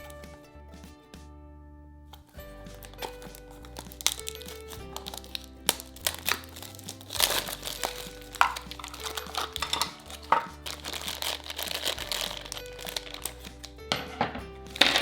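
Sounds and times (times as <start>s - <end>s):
light background music: 0.0s - 15.0s
plastic packaging crinkling: 2.2s - 13.9s, 14.7s - 15.0s.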